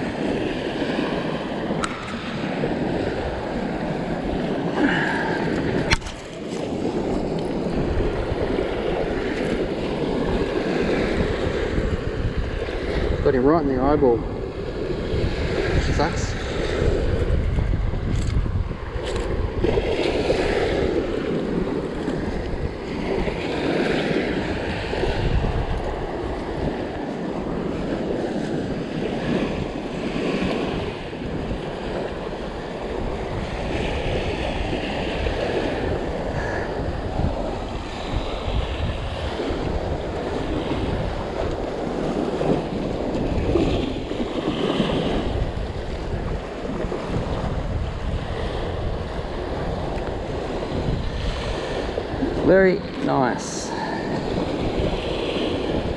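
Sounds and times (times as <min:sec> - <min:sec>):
small waves washing onto sand: 0:00.0 - 0:55.9
wind gusting on microphone: 0:00.0 - 0:55.9.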